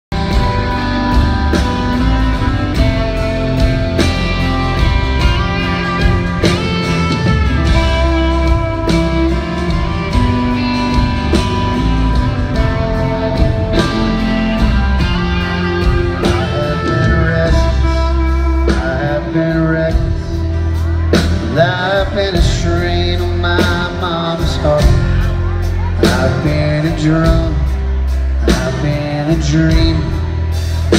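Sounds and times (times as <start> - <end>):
bass guitar: 0.0 - 30.9
electric lead guitar: 0.1 - 30.9
steady drum beat: 0.1 - 30.9.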